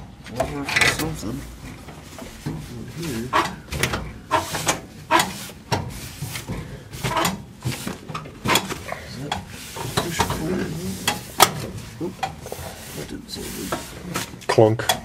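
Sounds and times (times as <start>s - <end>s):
clicks and metallic rattling: 0.0s - 12.5s.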